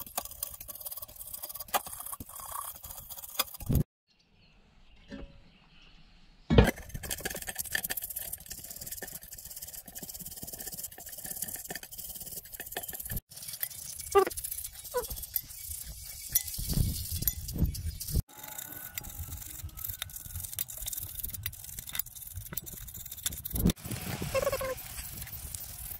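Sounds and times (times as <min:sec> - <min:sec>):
brush scrubbing metal: 0:00.0 - 0:03.8, 0:06.9 - 0:25.9.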